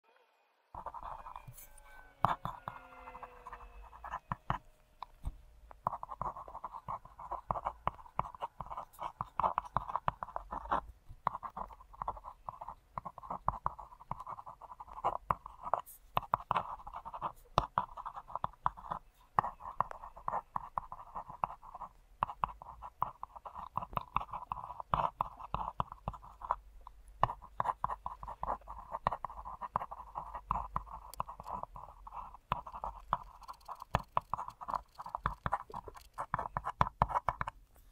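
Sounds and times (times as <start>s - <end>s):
pencil scratching on fibreboard: 0.8s - 37.9s.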